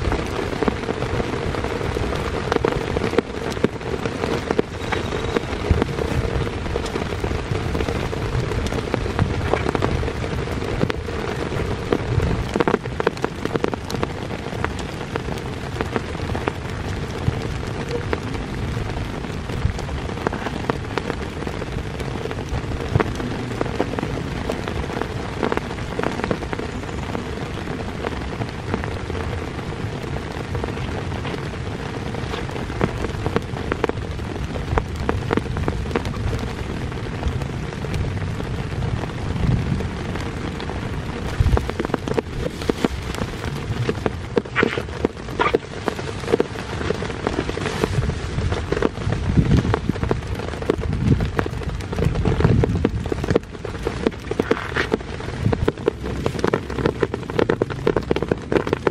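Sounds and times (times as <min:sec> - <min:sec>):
heavy rain drumming: 0:00.0 - 0:58.9.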